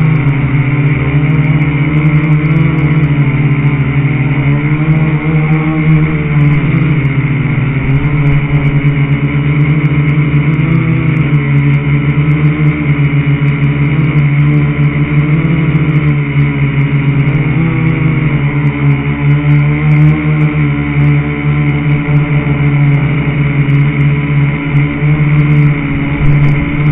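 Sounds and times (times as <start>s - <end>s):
quadcopter propellers buzzing: 0.0s - 26.9s.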